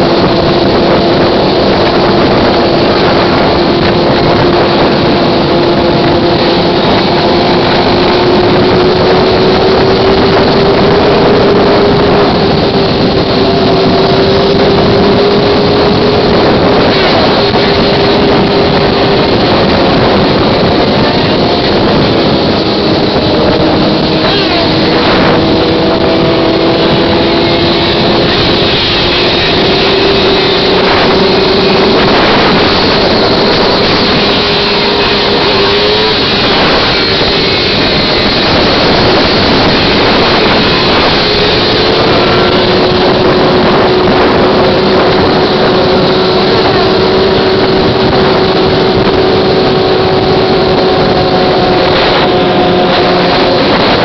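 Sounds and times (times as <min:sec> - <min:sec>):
motorcycle engine drone: 0:00.0 - 0:54.0
wind rush on microphone: 0:00.0 - 0:54.0.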